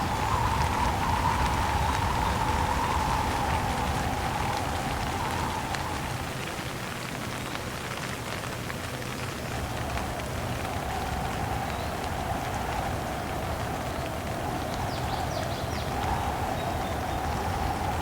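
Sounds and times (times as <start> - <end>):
rain falling: 0.0 - 18.0
wind howling in gusts: 0.0 - 18.0.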